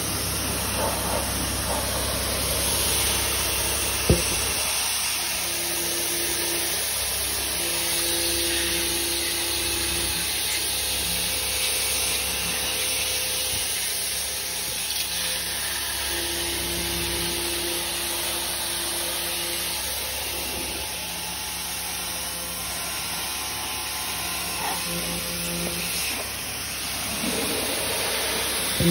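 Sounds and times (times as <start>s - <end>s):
machine running hum: 0.0s - 28.9s.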